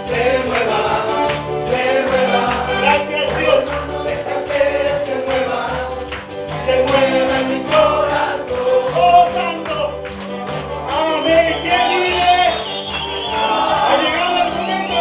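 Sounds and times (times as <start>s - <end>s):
bass beat: 0.0s - 15.0s
group singing gospel: 0.0s - 15.0s.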